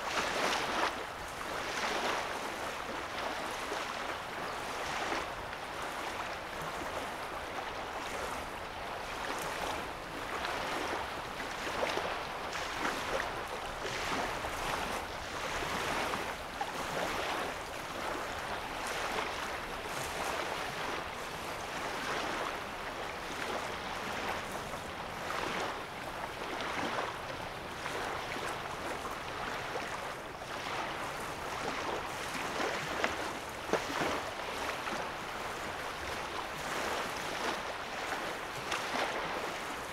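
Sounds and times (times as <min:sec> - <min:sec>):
waves lapping on a sandy shore: 0:00.0 - 0:39.9.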